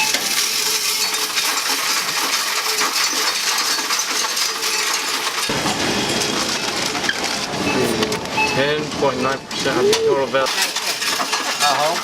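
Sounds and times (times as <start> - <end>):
coins rattling through counting machine: 0.0 - 9.8, 10.4 - 12.0.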